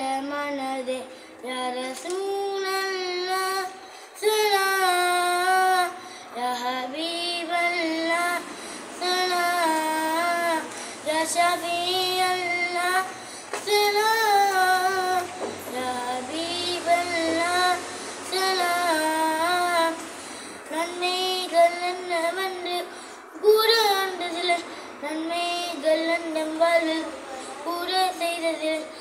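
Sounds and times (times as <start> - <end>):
boy singing solo: 0.0 - 29.0.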